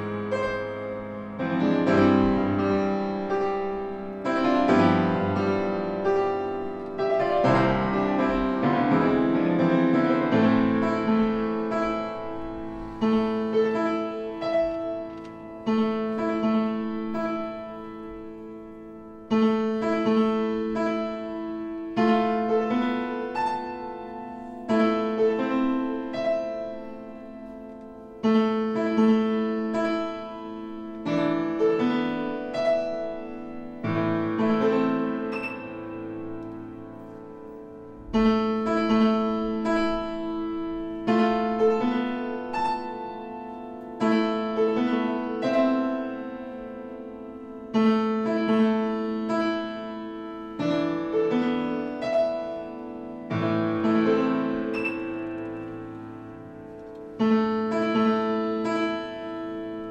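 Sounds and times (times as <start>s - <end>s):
soft slow piano chords: 0.0s - 59.9s.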